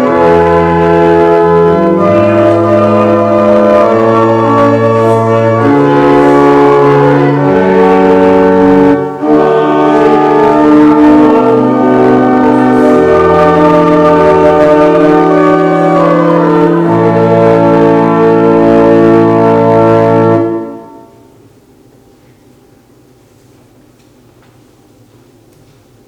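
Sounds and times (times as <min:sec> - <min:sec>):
church organ playing a hymn: 0:00.0 - 0:21.7.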